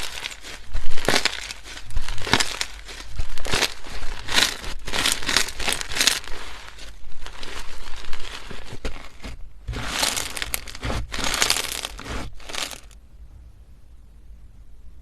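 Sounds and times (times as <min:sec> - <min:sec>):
slime squeezed crackling and popping: 0:00.0 - 0:13.0.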